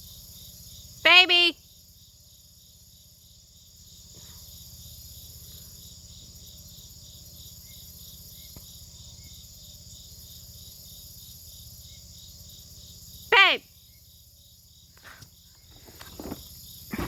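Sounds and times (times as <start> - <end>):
continuous high buzz: 0.0 - 17.0
insects chirping: 0.0 - 17.0.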